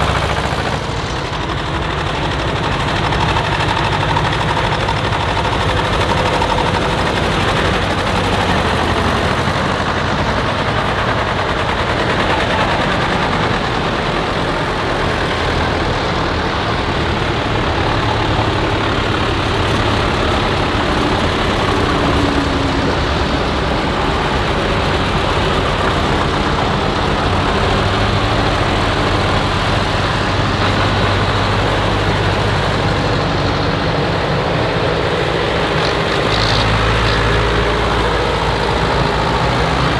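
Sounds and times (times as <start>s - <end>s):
tractor engines droning: 0.0s - 39.9s.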